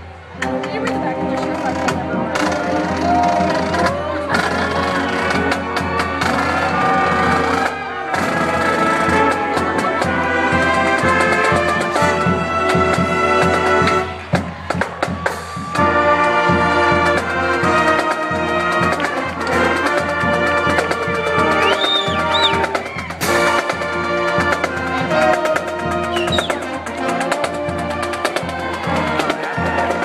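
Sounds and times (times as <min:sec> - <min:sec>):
drums: 0:00.0 - 0:30.0
trumpets and trombones: 0:00.0 - 0:30.0.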